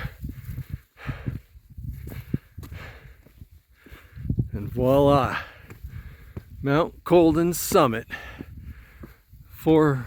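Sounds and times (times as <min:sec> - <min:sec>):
footsteps on rock: 0:01.8 - 0:10.0.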